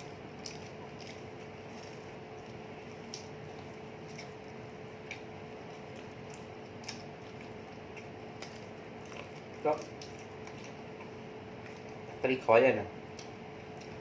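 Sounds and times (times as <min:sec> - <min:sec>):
people chewing: 0:00.0 - 0:12.2, 0:13.0 - 0:14.0.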